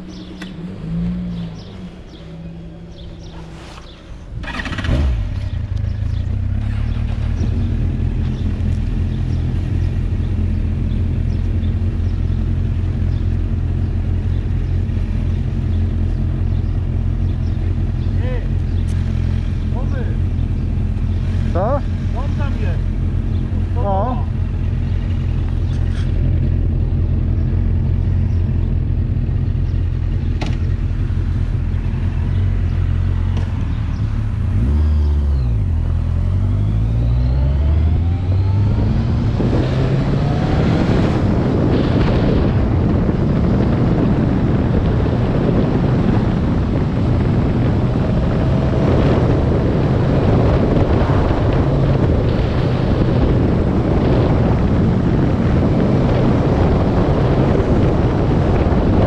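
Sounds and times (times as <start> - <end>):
vehicle engine accelerating: 0.0 - 59.0
wind and road noise: 0.0 - 59.0.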